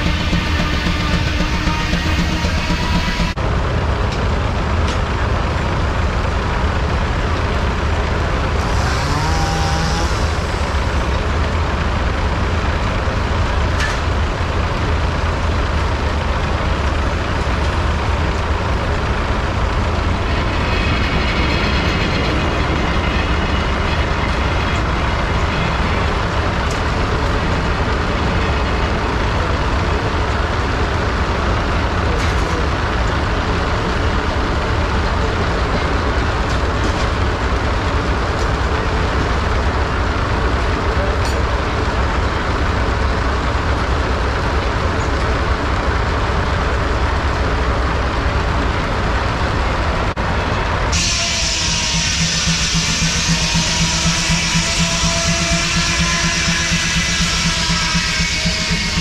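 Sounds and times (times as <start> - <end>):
circular sawmill running: 0.0 - 59.0.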